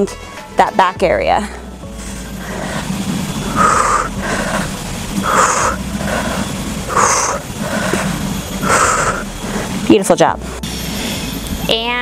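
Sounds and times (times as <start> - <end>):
woman breathing heavily: 1.3 - 11.4.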